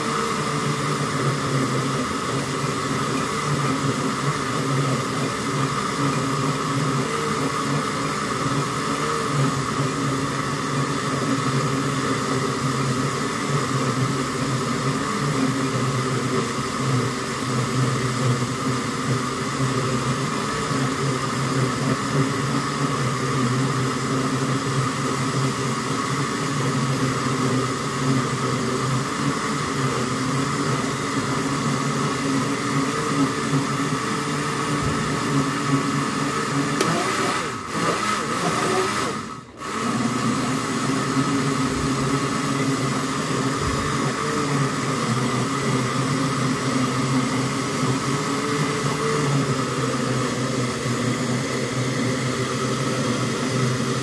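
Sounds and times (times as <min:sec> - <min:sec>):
blender motor whirring: 0:00.0 - 0:54.0.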